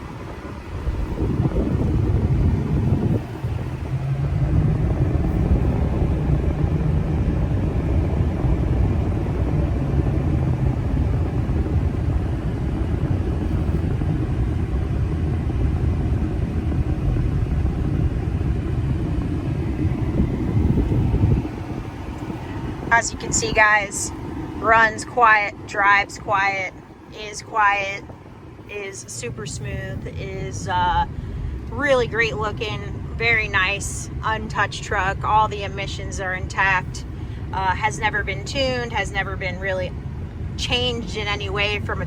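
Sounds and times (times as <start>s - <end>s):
truck engine rumble: 0.0s - 42.0s
tyres on the road: 0.0s - 42.0s.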